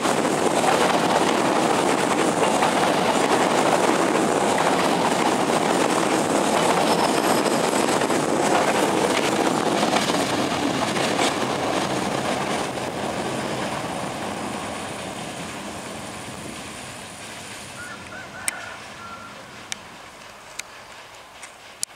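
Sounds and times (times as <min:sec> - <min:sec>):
train wheels rumbling on track: 0:00.0 - 0:21.9.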